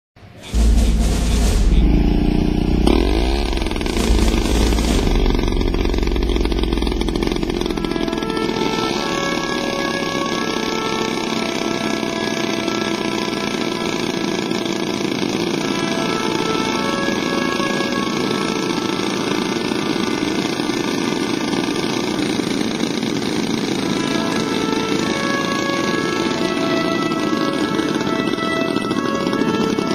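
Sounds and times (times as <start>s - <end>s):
model aircraft engine buzzing: 0.2s - 29.9s
motor running: 0.2s - 29.9s.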